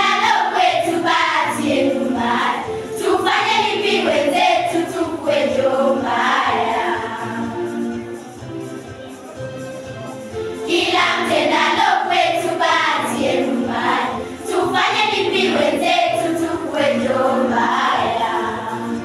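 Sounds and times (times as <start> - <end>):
girls' choir singing: 0.0 - 7.9, 10.6 - 19.0
electronic keyboard: 0.0 - 19.0.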